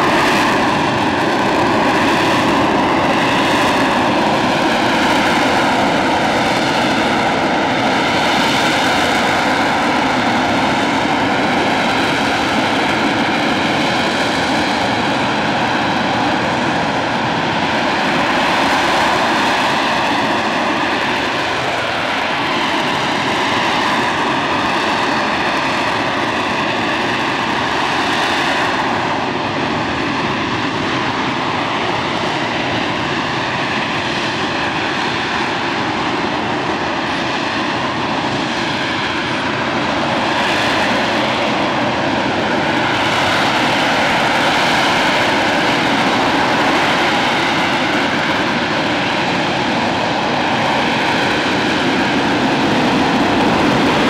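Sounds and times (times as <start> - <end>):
jet engine running: 0.0 - 54.0.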